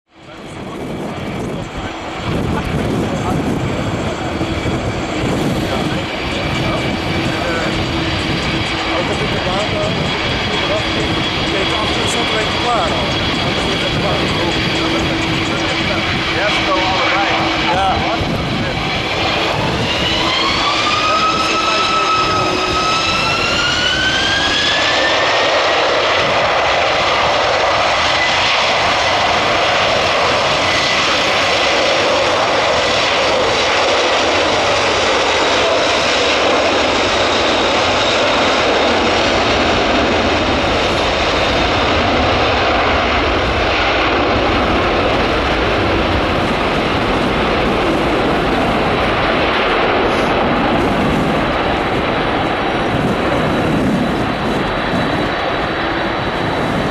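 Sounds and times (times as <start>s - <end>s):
jet engine roar: 0.1s - 56.9s
jet engine whine: 0.1s - 56.9s.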